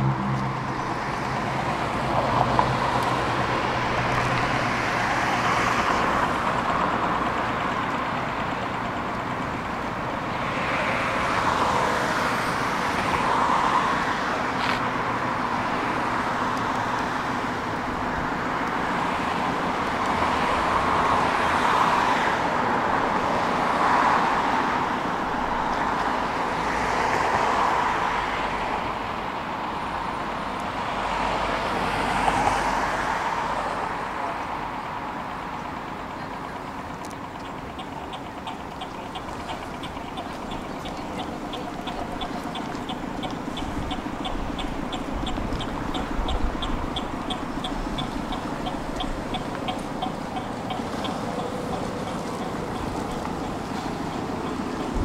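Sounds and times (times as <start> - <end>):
vehicles running: 0.0 - 55.0.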